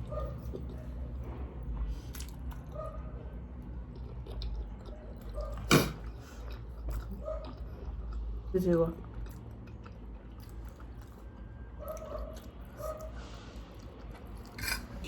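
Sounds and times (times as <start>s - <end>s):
person chewing noodles: 0.0s - 15.0s.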